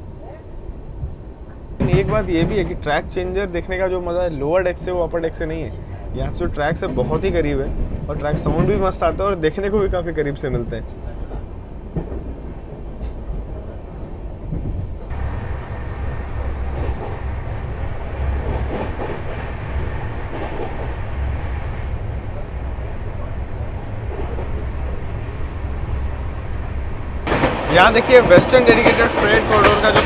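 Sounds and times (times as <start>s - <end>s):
passing train: 0.0s - 30.0s
train wheels rumbling on track: 0.0s - 30.0s.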